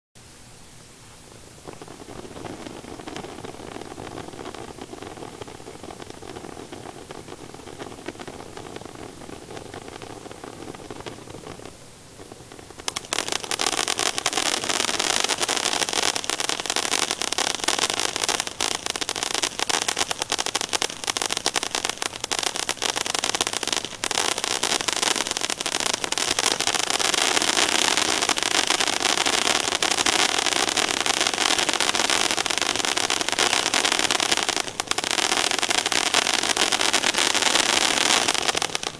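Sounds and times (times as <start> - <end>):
firework fountain spraying sparks: 0.9 - 38.9
dense firework crackling: 1.0 - 38.9.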